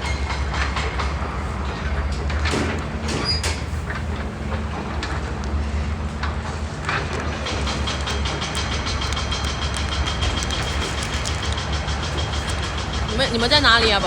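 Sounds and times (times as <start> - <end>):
light clicks and clatter: 0.0 - 14.0.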